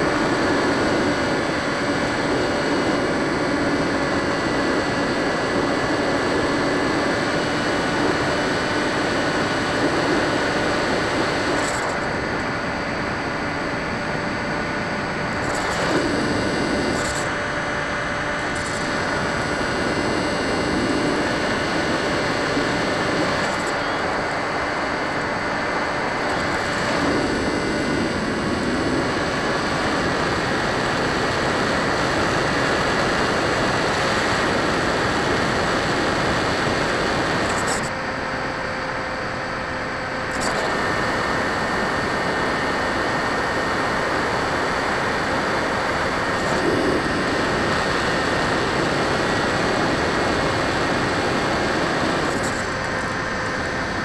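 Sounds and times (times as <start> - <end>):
faint electric motor whine: 0.0 - 54.0
wind and propeller noise: 0.0 - 54.0.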